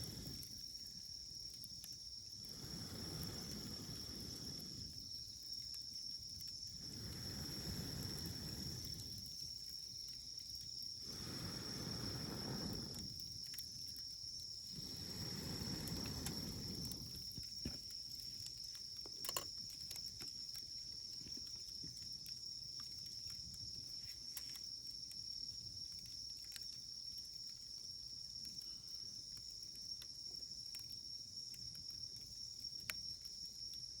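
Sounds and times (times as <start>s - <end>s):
insect trill: 0.0s - 34.0s
wood fire crackling and popping: 0.0s - 34.0s.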